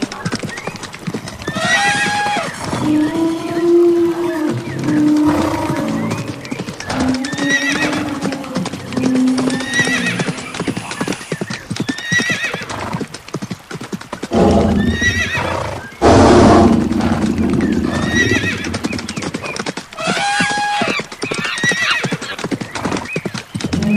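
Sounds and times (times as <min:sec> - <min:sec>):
horses whinnying: 0:00.0 - 0:13.1, 0:14.3 - 0:23.1
horse hooves clattering: 0:00.0 - 0:23.9.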